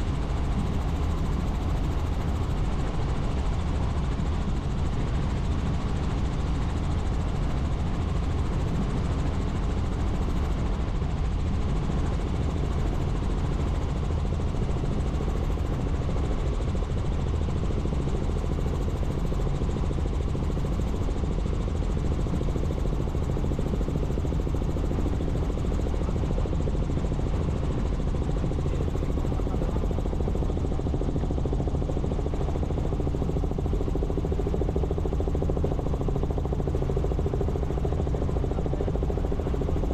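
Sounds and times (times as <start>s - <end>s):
helicopter engine noise: 0.0s - 39.9s
helicopter rotor drone: 0.0s - 39.9s.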